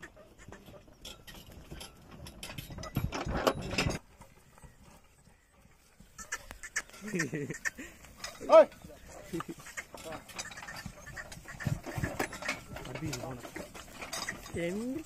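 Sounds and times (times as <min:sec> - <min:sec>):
cart rattling and knocking: 0:00.0 - 0:07.4, 0:08.0 - 0:15.0
ox hoof knocks: 0:00.0 - 0:15.0.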